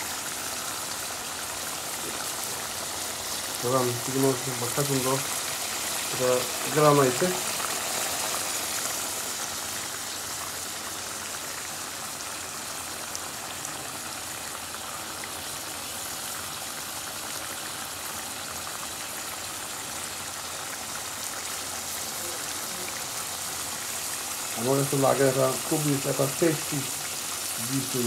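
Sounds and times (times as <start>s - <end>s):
chicken sizzling in oily gravy: 0.0s - 28.0s.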